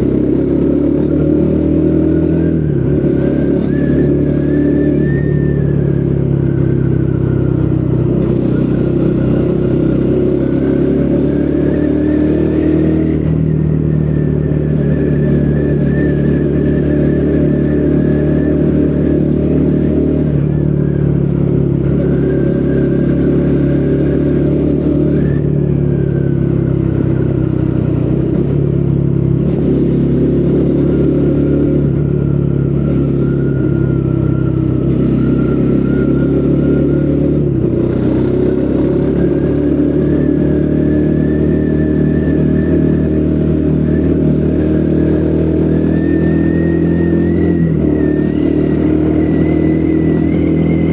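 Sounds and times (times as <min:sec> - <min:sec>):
motorcycle engine riding: 0:00.0 - 0:50.9.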